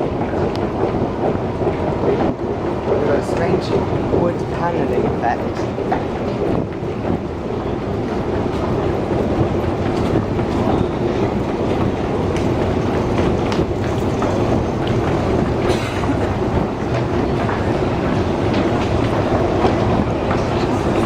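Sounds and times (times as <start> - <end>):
escalator steps clicking: 0.0 - 21.0.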